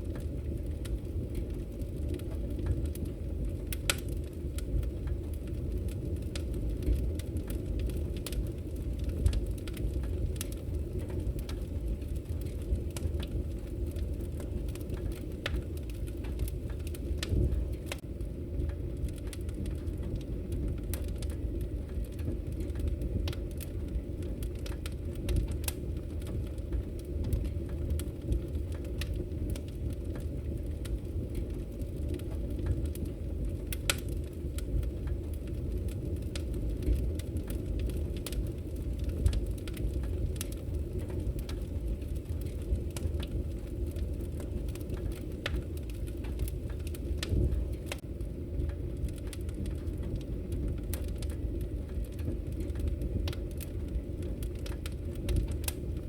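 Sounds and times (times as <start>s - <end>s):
logs crackling in fireplace: 0.0s - 56.0s
low rumble of fire: 0.0s - 56.0s.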